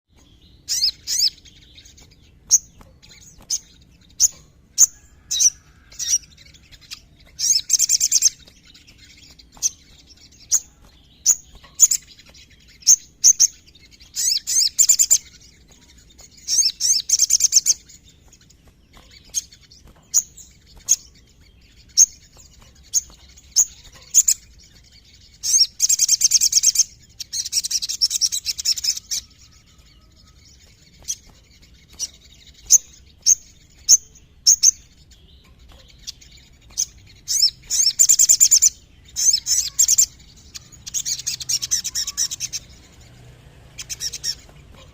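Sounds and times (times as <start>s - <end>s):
sunbird chirping and trilling: 0.0s - 44.9s.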